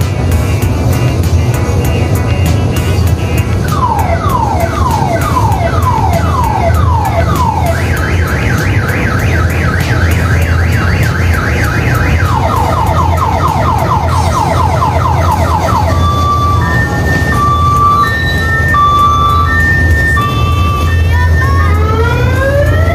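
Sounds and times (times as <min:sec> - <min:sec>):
electronic alarm siren: 0:03.4 - 0:22.9.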